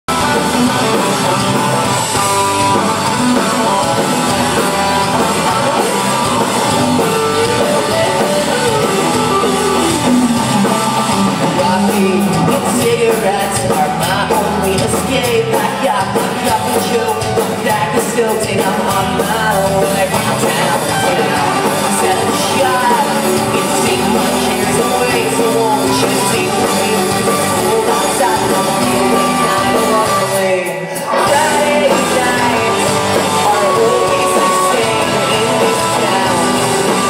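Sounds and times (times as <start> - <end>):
guitar: 0.0 - 37.0
man singing: 0.1 - 37.0.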